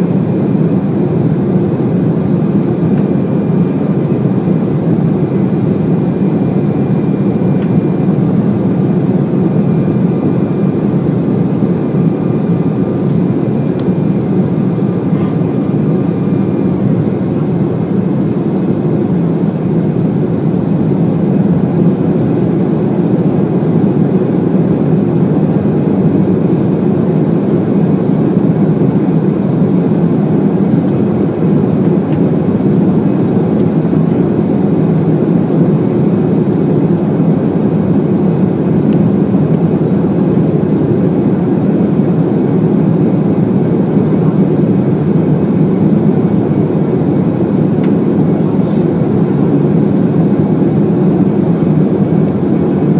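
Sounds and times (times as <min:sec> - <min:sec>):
jet cabin engine and airflow noise: 0:00.0 - 0:52.9.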